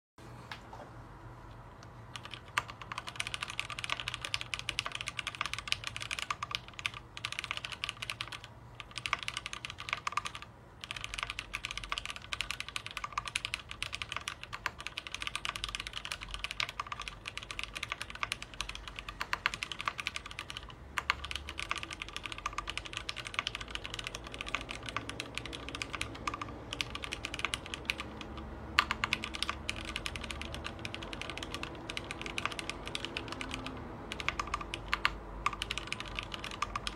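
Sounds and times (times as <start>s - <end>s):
fast keyboard typing: 2.1s - 36.9s.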